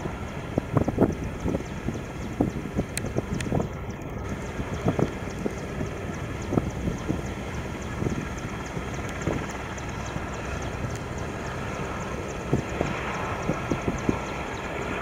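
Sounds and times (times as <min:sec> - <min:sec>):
distant jet engines: 0:00.0 - 0:15.0
wind buffeting microphone: 0:00.0 - 0:15.0.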